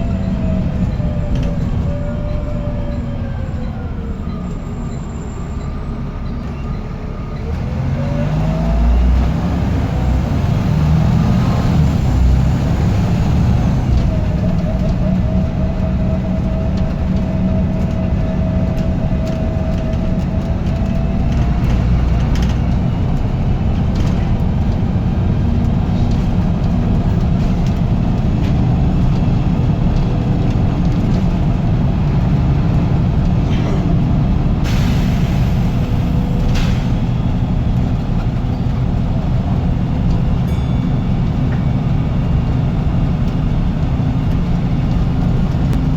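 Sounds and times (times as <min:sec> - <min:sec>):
bus engine running: 0:00.0 - 0:45.9.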